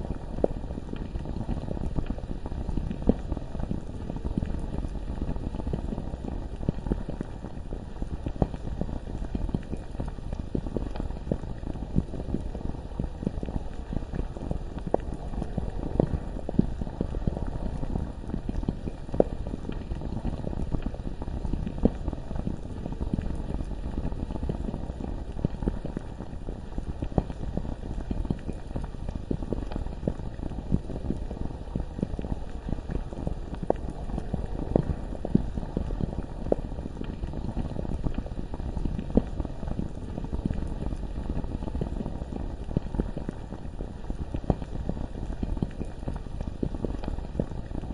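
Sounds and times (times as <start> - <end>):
lava bubbling and popping: 0.0 - 47.9.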